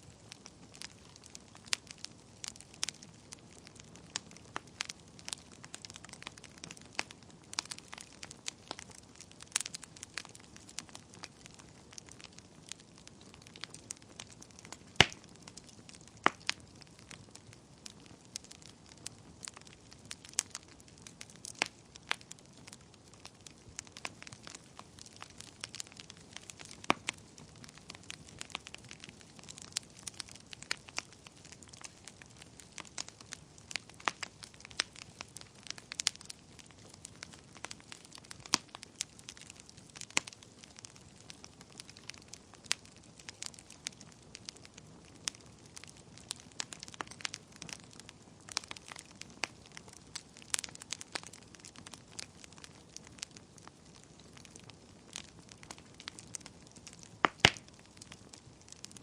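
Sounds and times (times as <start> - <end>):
soft hiss of flames: 0.0 - 59.0
wood fire crackling and popping: 0.0 - 59.0.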